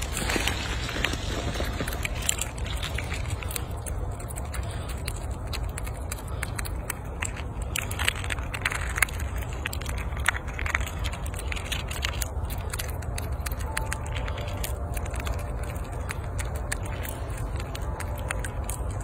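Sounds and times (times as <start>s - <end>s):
squirrel gnawing nut shell: 0.0s - 19.0s.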